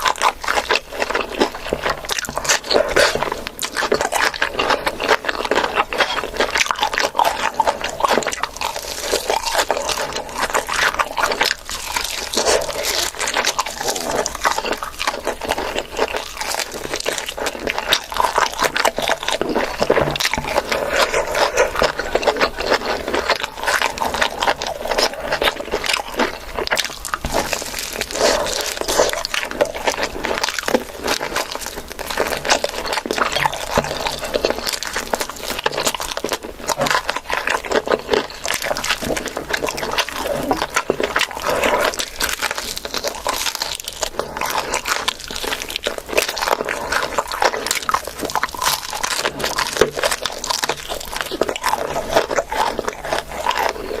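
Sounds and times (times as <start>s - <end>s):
chewing and mouth smacking: 0.0s - 54.0s.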